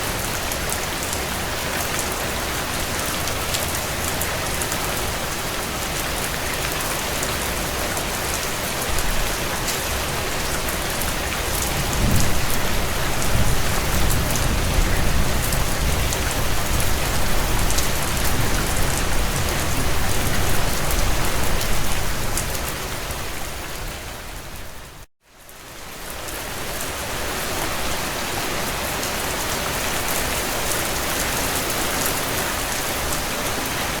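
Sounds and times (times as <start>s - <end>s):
heavy rain on a tin roof: 0.0s - 34.0s.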